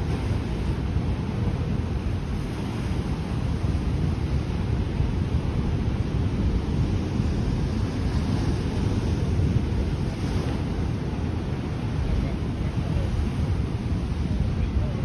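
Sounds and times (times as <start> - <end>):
ocean surf on rocky shore: 0.0 - 15.0
wind buffeting microphone: 0.0 - 15.0.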